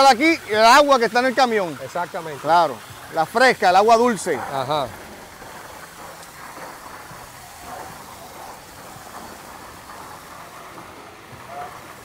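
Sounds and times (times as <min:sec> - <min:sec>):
water jetting and splashing: 0:00.0 - 0:12.0.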